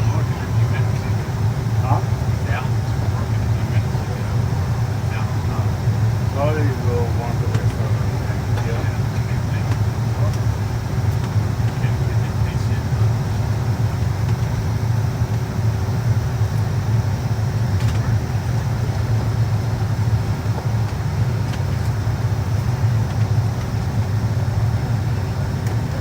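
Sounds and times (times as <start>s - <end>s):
airliner cabin ventilation rumble: 0.0s - 26.0s
faint steady hum: 0.0s - 26.0s.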